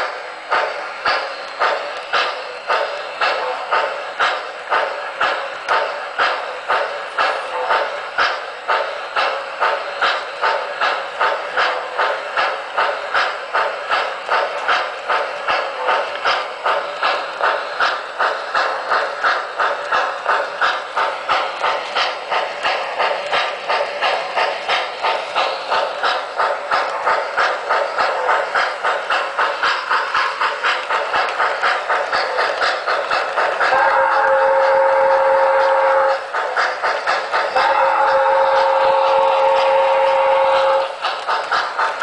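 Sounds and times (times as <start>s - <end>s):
electronic steam locomotive chuffing: 0.0s - 42.0s.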